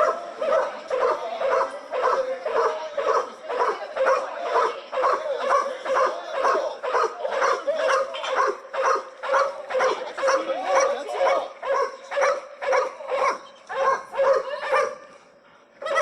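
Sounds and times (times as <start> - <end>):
dog barking: 0.0 - 15.1.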